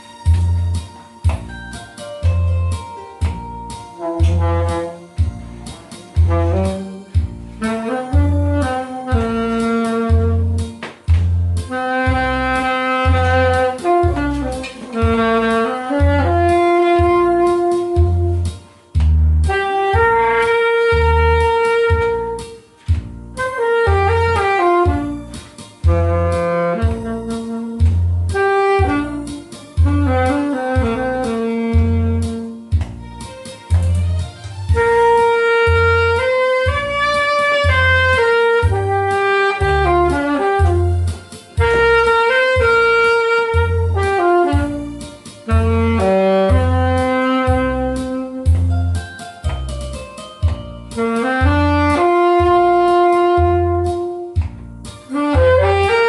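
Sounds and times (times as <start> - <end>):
backing track bass beat: 0.0 - 56.0
saxophone melody: 0.0 - 56.0.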